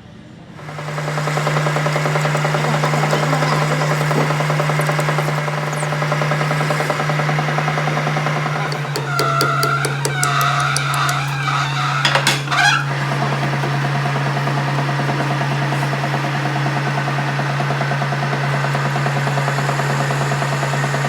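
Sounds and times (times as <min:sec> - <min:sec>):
workshop machine humming: 0:00.4 - 0:21.0.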